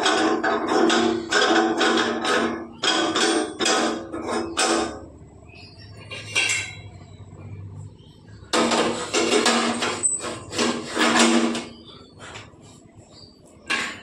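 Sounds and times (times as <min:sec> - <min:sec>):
metal grating on metal: 0:00.0 - 0:07.2, 0:08.5 - 0:12.8.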